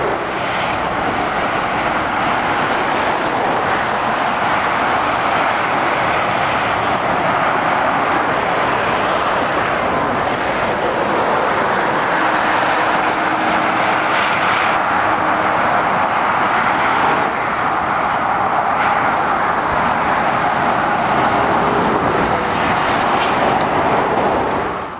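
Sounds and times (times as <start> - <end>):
tyres rushing on road: 0.0 - 24.9
vehicle engines: 0.0 - 24.9.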